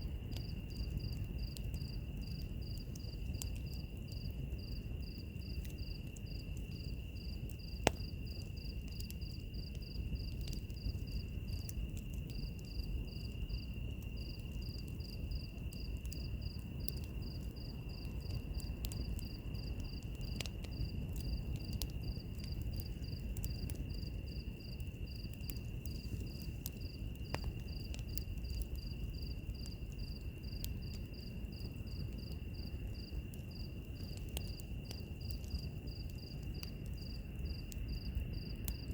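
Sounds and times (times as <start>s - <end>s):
insect steady trill: 0.0s - 38.9s
wood fire crackling: 0.0s - 38.9s.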